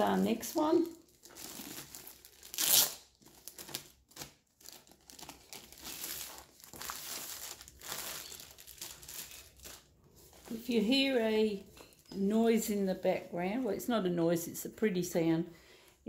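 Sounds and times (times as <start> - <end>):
plastic sleeve crinkling: 0.0 - 13.4.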